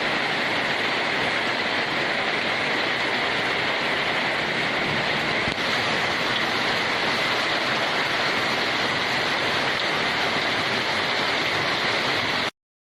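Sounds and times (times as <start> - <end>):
heavy rain: 0.0 - 12.6.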